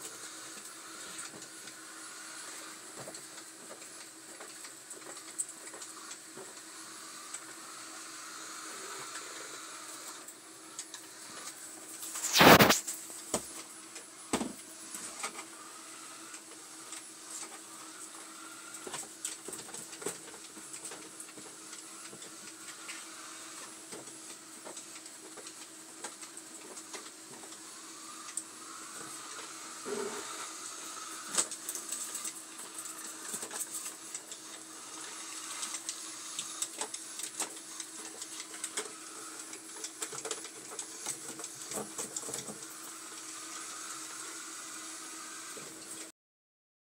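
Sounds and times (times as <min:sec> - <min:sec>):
robot vacuum motor hum: 0:00.0 - 0:46.1.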